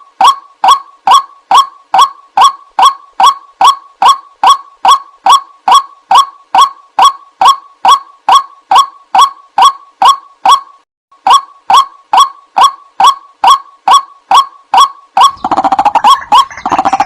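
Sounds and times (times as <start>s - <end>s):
waterhen calls: 0.2s - 10.6s, 11.3s - 17.0s.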